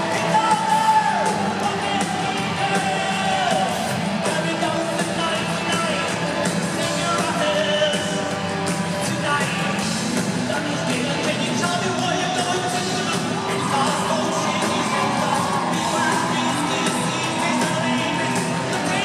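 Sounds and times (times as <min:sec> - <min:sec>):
man singing into microphone: 0:00.0 - 0:08.2, 0:09.0 - 0:09.8, 0:10.4 - 0:19.0
live rock band playing: 0:00.0 - 0:19.0.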